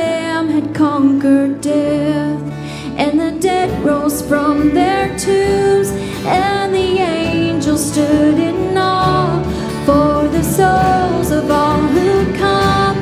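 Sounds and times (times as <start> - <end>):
band with acoustic guitar: 0.0 - 13.0
woman singing lead: 0.0 - 13.0.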